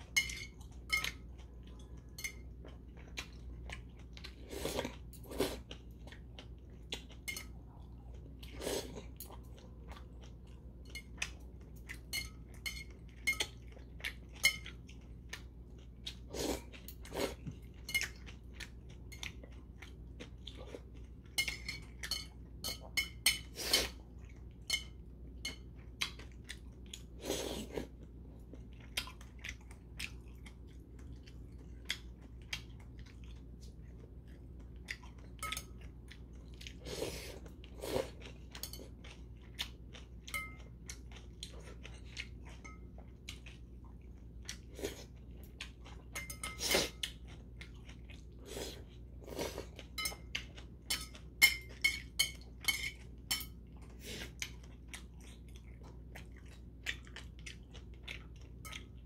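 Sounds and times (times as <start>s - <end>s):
person chewing noodles: 0.0s - 59.0s.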